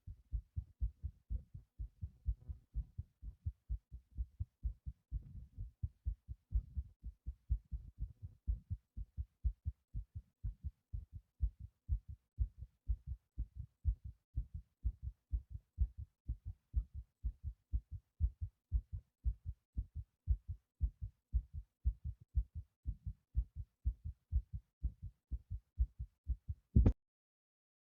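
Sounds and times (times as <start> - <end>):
fast heartbeat thumps: 0.0 - 27.0.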